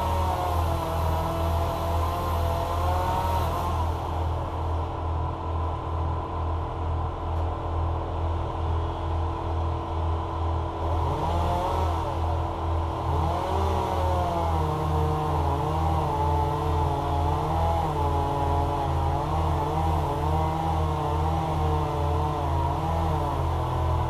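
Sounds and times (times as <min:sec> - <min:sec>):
engine running with low throb: 0:00.0 - 0:24.0.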